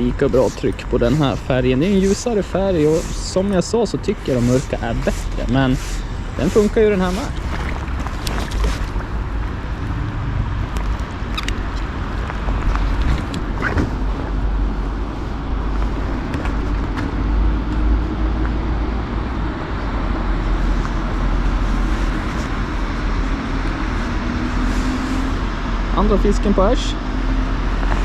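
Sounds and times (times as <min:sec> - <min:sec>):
city traffic rumble: 0:00.0 - 0:28.0
faint engine hum: 0:00.0 - 0:28.0.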